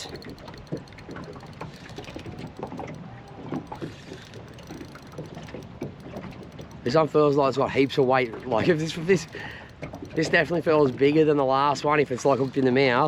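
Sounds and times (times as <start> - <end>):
light clicks and knocks: 0.0 - 13.0.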